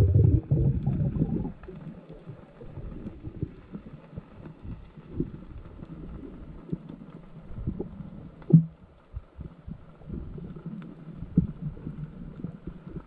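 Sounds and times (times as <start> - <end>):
muffled underwater water rumbling: 0.0 - 13.0.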